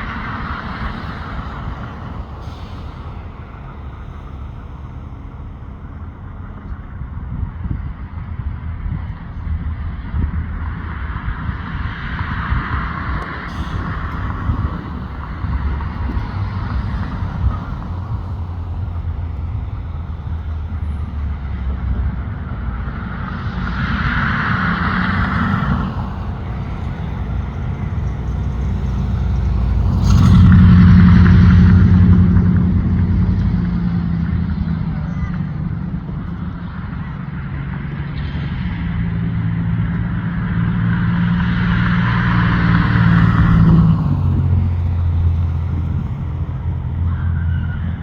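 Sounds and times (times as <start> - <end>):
engine hum: 0.0 - 48.0
vehicles passing: 0.0 - 48.0.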